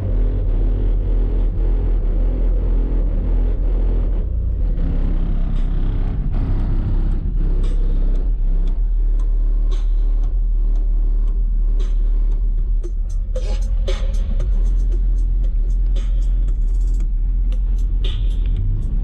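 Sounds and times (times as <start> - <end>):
bass-heavy music on subwoofers: 0.0 - 19.0.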